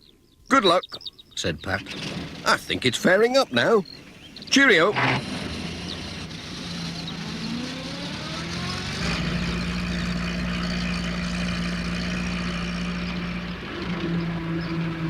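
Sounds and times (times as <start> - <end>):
van engine pulling away: 1.4 - 15.0.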